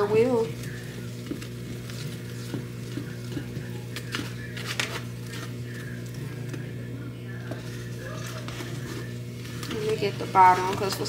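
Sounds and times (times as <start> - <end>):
steady low hum: 0.0 - 11.0
utensil stirring batter in bowl: 0.0 - 11.0.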